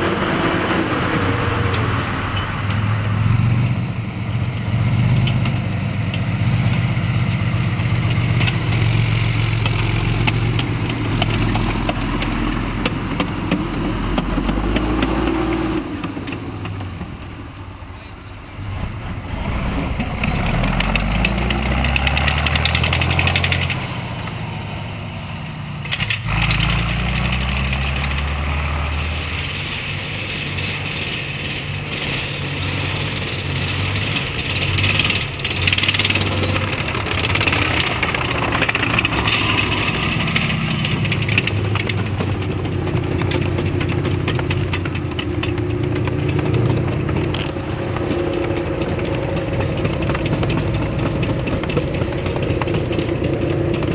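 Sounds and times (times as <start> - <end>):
diesel tank engine revving: 0.0 - 53.9.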